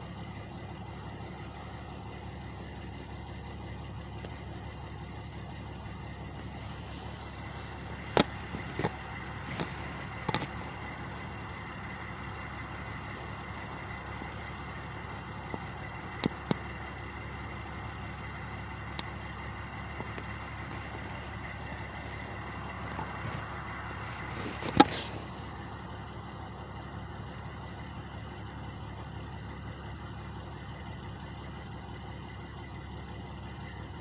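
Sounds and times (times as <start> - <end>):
trucks idling: 0.0 - 34.0.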